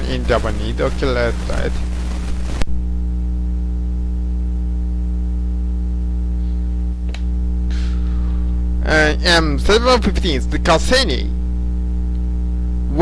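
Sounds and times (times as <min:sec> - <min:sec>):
low buzzy hum: 0:00.0 - 0:13.0.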